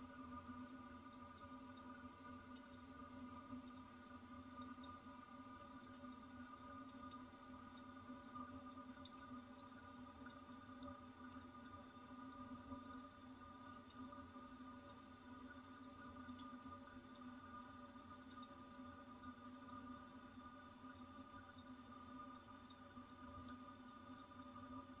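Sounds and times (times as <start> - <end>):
toilet fill valve humming: 0.0 - 25.0
water dripping: 0.0 - 25.0.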